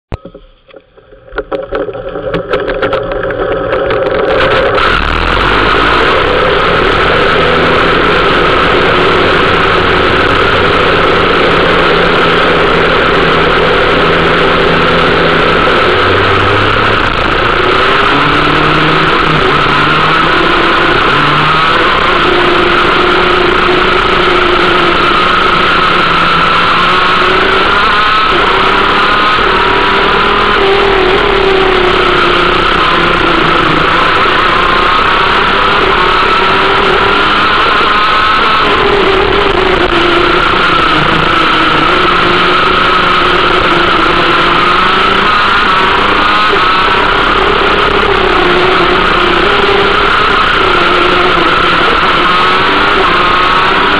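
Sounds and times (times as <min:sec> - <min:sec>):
two-stroke kart engine racing: 0:00.1 - 0:53.9.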